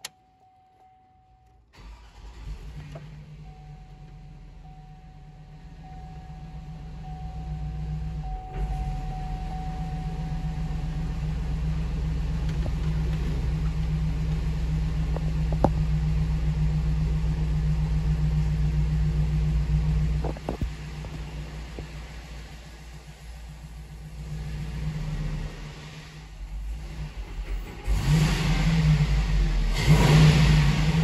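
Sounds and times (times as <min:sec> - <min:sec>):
engine idling rumble: 0:01.7 - 0:31.0.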